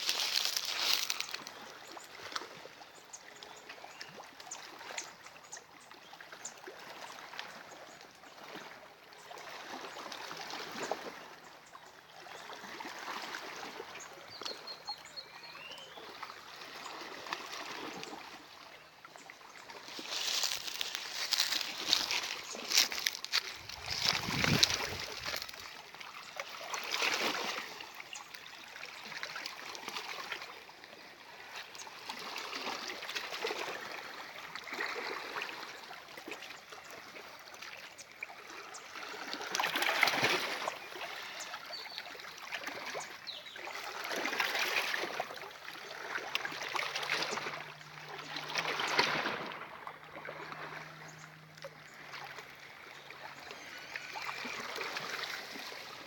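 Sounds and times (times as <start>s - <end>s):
water lapping at shore: 0.0s - 56.0s.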